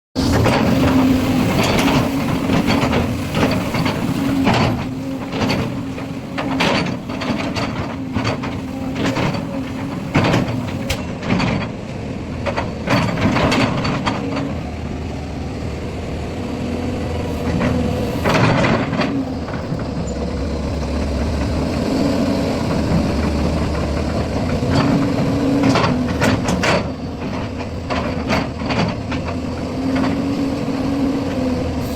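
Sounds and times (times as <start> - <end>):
excavator diesel engine running: 0.2 - 31.9.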